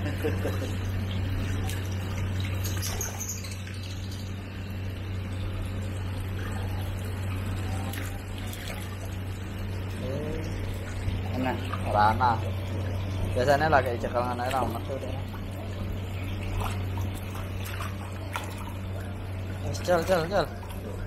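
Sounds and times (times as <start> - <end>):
low hum: 0.0 - 21.0
water running: 0.0 - 21.0.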